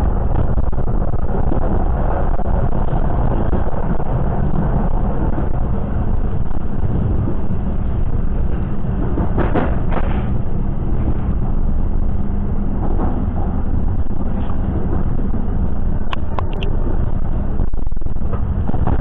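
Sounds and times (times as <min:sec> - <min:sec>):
constant hum: 0:00.0 - 0:19.0
train rumbling: 0:00.0 - 0:19.0.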